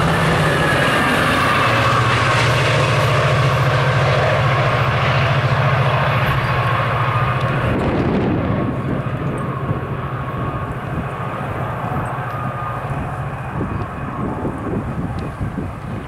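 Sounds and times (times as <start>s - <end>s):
train passing rumble: 0.0s - 16.0s.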